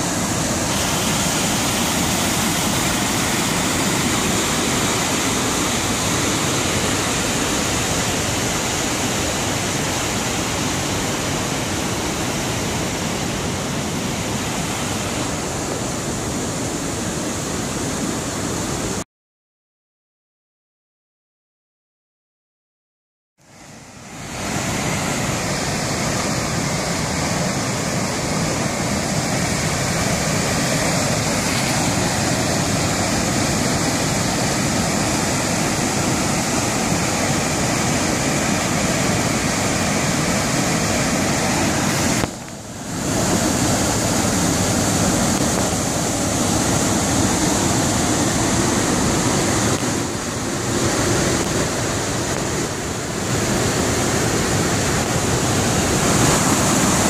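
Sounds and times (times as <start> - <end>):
waterfall and rapids rushing: 0.0 - 19.0, 23.4 - 57.0.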